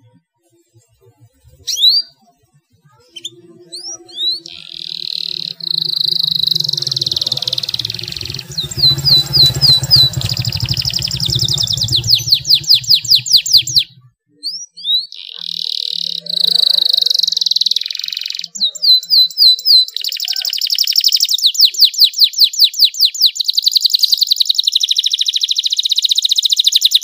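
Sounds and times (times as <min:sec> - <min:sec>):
canary singing: 0:01.6 - 0:02.2, 0:03.1 - 0:27.0.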